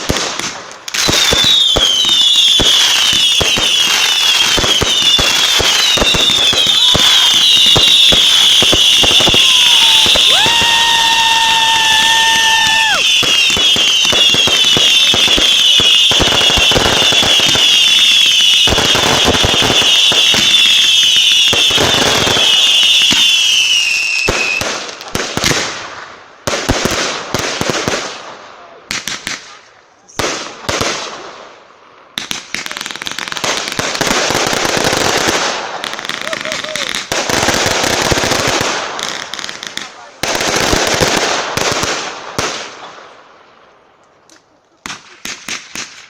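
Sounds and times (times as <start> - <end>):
firework crackling and bangs: 0.0 - 43.5, 44.8 - 46.0.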